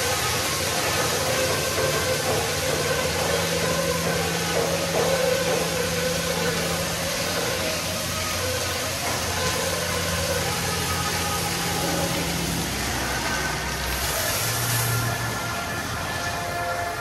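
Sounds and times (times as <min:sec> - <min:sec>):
hiss of air and water: 0:00.0 - 0:17.0
motor hum: 0:00.0 - 0:17.0.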